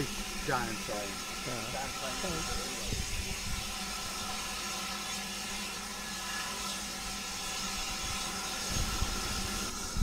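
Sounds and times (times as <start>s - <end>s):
steam train mechanical hum: 0.0s - 10.0s.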